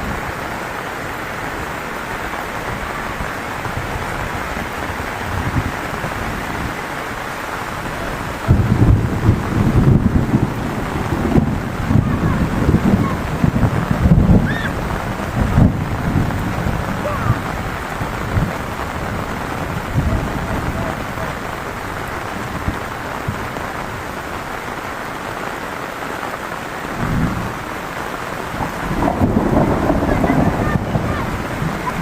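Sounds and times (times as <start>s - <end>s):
heavy rain pouring: 0.0s - 32.0s
low rumbling wind or thunder: 1.4s - 24.7s, 26.8s - 32.0s.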